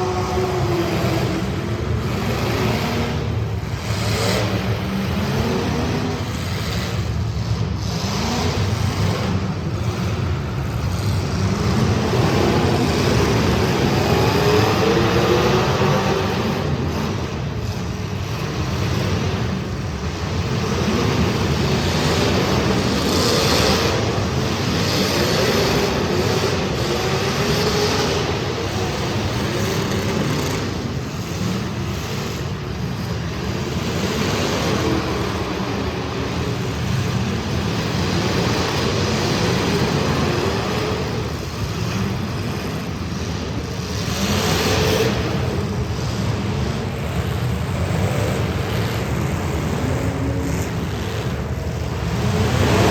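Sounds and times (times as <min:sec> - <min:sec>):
race car engines passing: 0:00.0 - 0:52.9.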